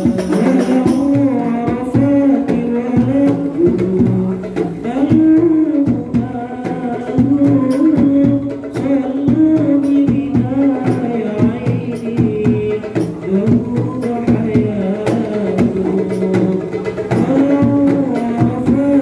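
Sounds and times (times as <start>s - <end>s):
bass drum: 0.0s - 19.0s
frame drums beating: 0.0s - 19.0s
man singing through microphone: 0.0s - 19.0s.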